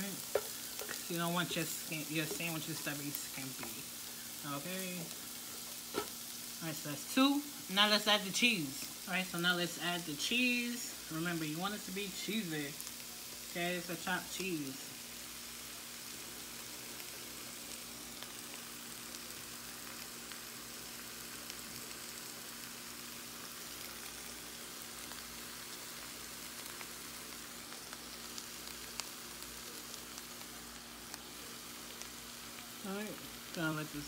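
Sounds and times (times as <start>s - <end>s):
meat sizzling in a frying pan: 0.0s - 34.0s.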